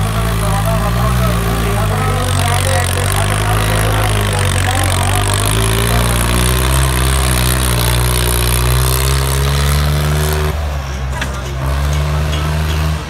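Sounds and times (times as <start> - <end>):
tractor engine at high revs: 0.0 - 13.0.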